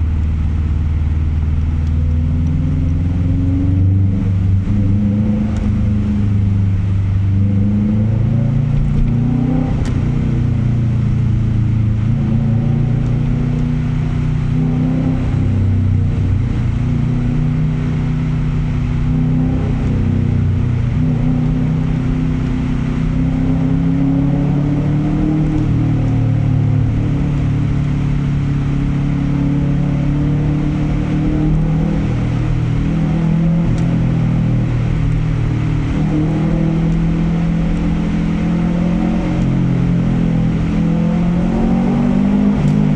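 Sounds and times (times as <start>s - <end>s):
engine uneven rumble: 0.0s - 42.9s.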